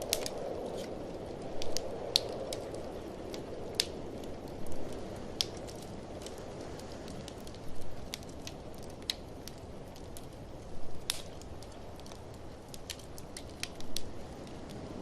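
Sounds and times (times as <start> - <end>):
blizzard wind rushing: 0.0 - 15.0
wood fire crackling and popping: 0.0 - 15.0.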